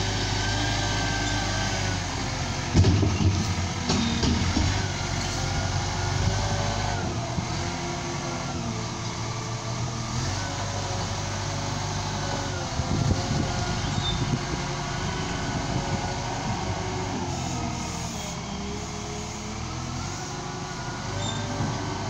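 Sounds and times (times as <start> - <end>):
wheel loader diesel engine: 0.0 - 22.0.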